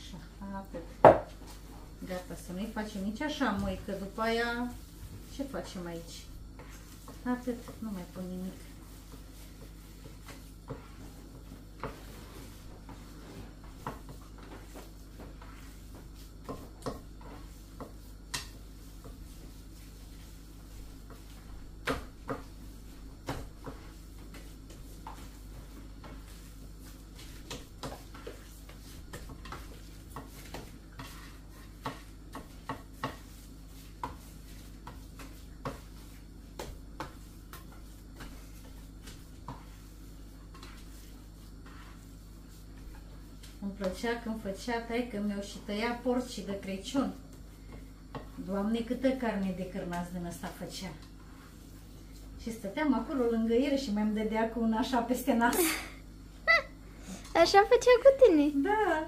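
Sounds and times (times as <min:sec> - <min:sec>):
hands kneading meat: 0:00.0 - 0:55.7.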